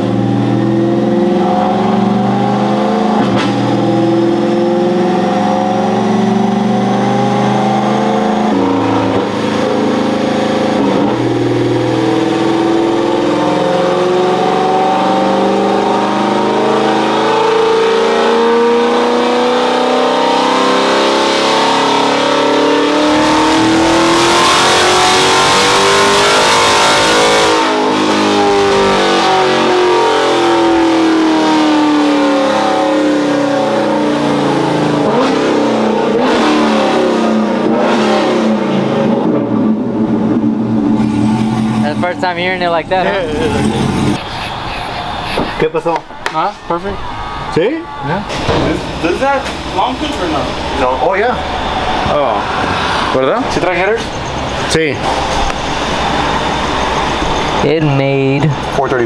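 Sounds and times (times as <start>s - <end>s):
truck engine revving under load: 0.0s - 59.0s.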